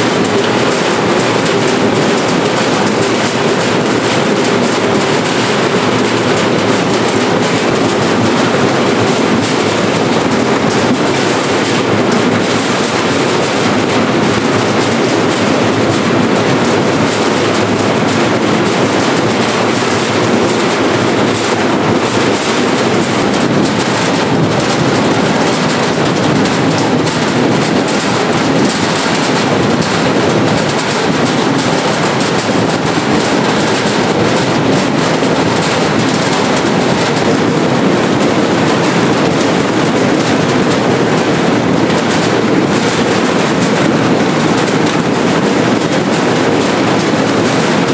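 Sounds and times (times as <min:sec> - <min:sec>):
machine clattering: 0:00.0 - 0:47.9.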